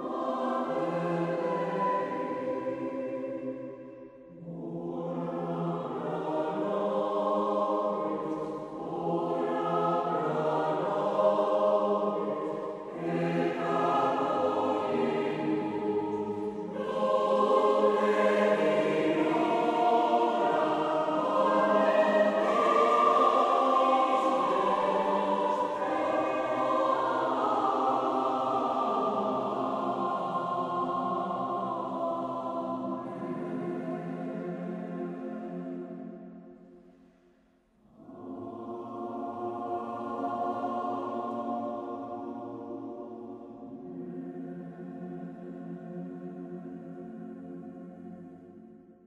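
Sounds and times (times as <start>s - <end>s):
choir singing slow chords: 0.0s - 49.0s.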